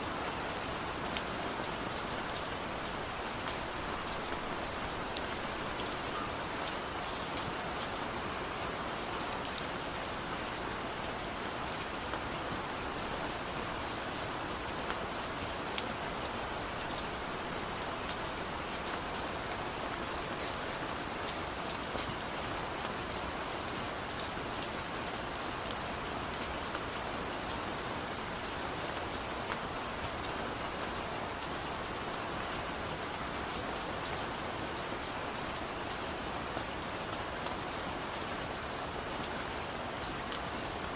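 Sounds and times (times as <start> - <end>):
rain hissing on a surface: 0.0 - 40.9.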